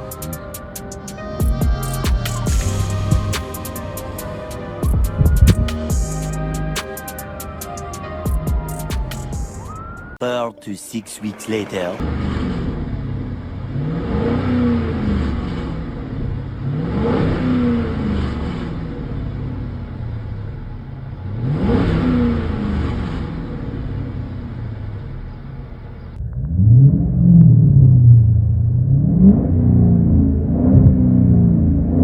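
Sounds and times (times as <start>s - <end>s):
car engine idling and revving: 0.0s - 10.1s, 12.0s - 32.0s.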